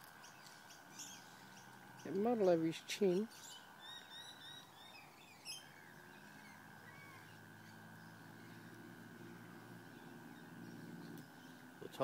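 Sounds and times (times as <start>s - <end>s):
faint low drone: 0.0s - 12.0s
high-pitched hum: 0.0s - 12.0s.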